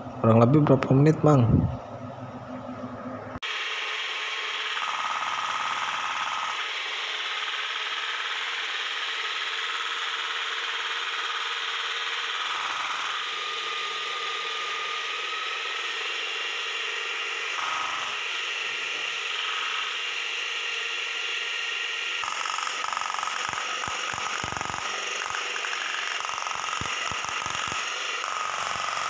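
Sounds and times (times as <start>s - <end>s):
electric tamper motor whine: 3.4s - 29.0s.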